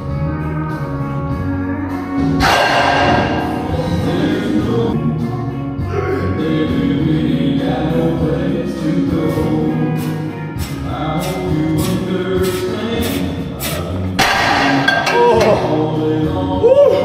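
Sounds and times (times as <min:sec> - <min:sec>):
choir-like singing with music: 0:00.0 - 0:17.0.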